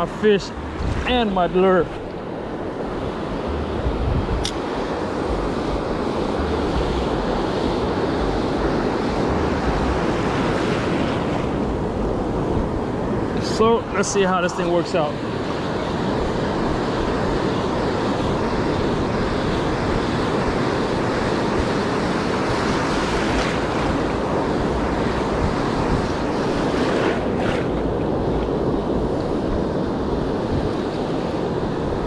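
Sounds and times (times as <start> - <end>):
ocean surf washing on beach: 0.0 - 32.0
wind on microphone: 0.0 - 32.0.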